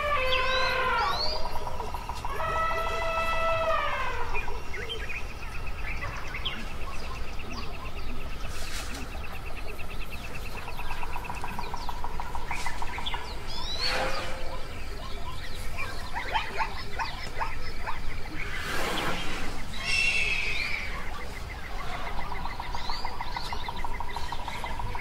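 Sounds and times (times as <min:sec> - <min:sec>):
bird squawk: 0:00.0 - 0:08.0, 0:10.8 - 0:25.0
birds chirping and trilling: 0:00.0 - 0:25.0.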